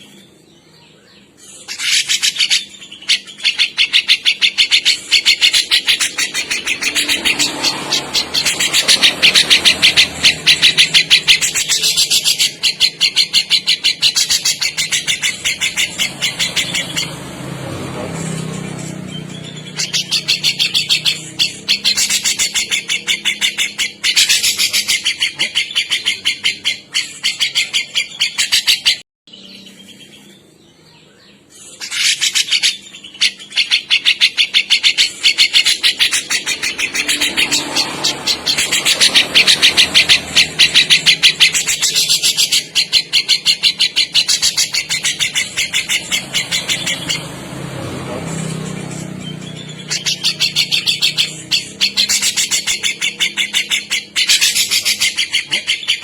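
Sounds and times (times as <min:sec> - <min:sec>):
bird chattering calls: 0:01.0 - 0:29.0, 0:31.3 - 0:56.0.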